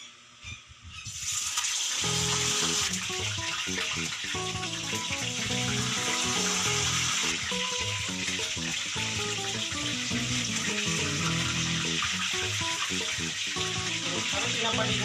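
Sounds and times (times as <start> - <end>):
hot oil sizzling in a frying pan: 1.0 - 15.0
background music: 2.0 - 15.0.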